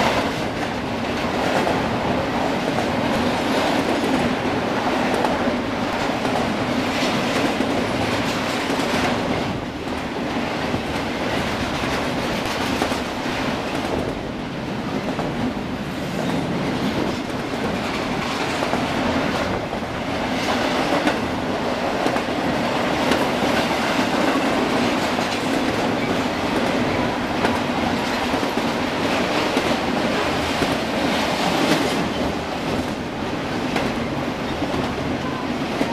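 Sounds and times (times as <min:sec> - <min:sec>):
train wheels clicking on track joints: 0:00.0 - 0:14.3, 0:14.9 - 0:35.9
freight train rumbling past: 0:00.0 - 0:35.9.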